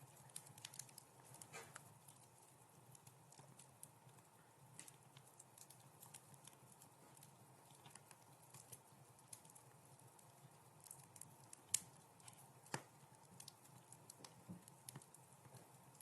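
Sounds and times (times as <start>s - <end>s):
wood fire crackling faintly: 0.0s - 16.0s.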